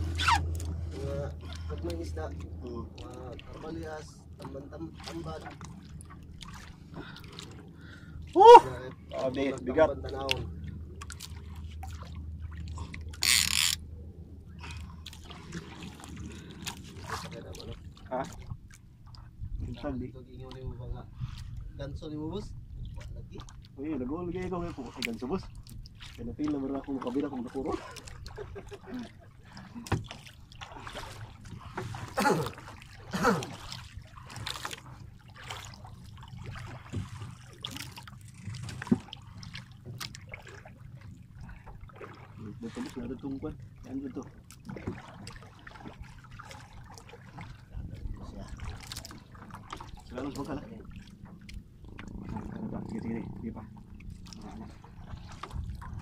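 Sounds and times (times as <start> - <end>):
boat engine low rumble: 0.0 - 56.0.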